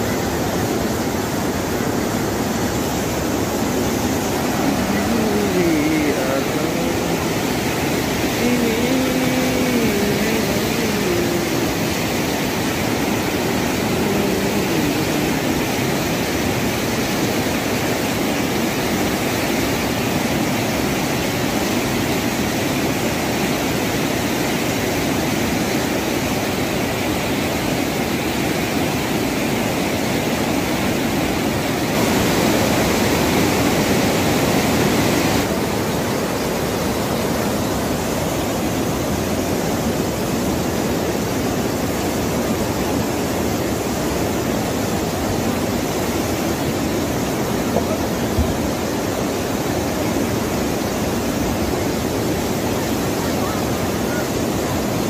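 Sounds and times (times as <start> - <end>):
flooded river rushing: 0.0 - 55.0.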